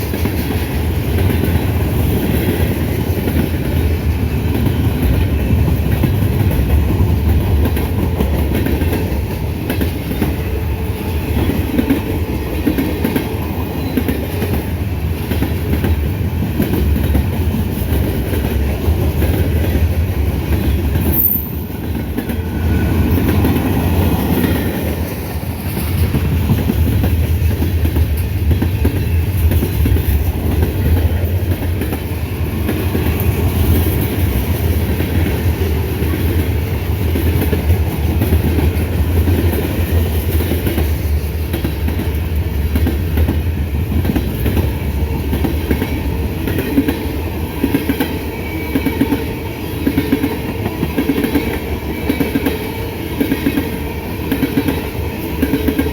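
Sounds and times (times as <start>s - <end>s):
deep train rumble: 0.0s - 55.9s.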